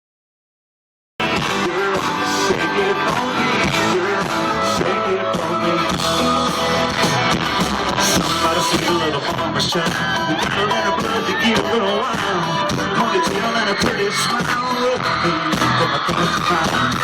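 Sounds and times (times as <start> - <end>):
country-rock band playing: 1.2 - 17.0
electric guitar: 1.2 - 17.0.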